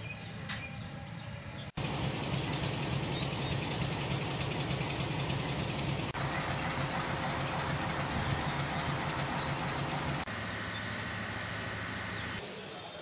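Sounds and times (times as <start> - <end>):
train engine rumbling: 0.8 - 12.4.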